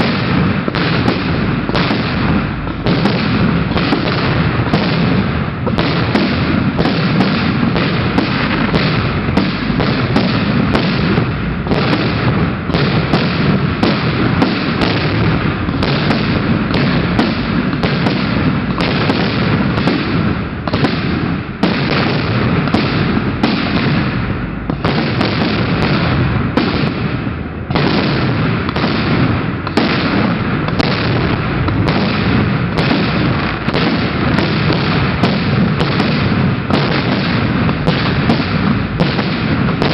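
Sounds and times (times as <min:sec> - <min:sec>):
fireworks bursts and booms: 0:00.0 - 0:39.9.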